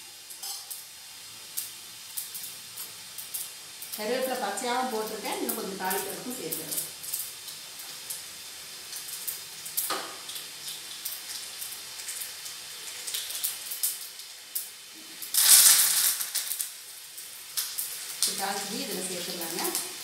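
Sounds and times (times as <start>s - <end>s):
seeds crackling in hot oil: 0.0s - 20.0s.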